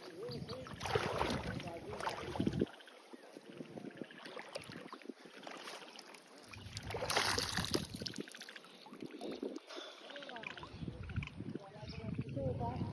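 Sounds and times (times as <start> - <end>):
water splashing and sloshing: 0.0 - 11.4.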